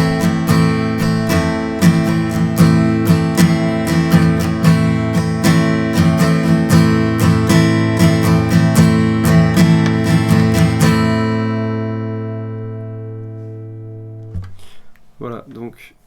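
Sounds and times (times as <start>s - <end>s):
guitar strumming: 0.0s - 15.4s.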